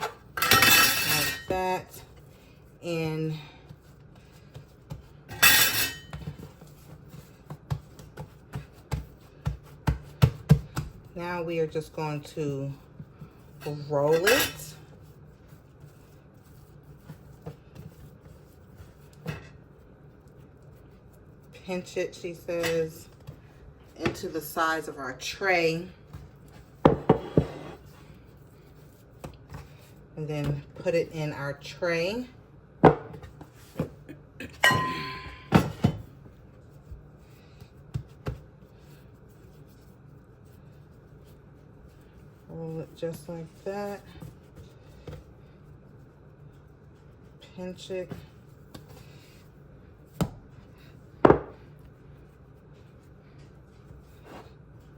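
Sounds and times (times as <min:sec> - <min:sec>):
dough rubbing and patting: 0:00.0 - 0:34.3, 0:35.6 - 0:54.9.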